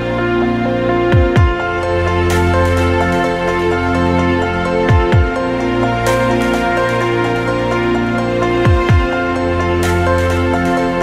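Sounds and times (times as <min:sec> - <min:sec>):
electronic new-age music: 0:00.0 - 0:11.0.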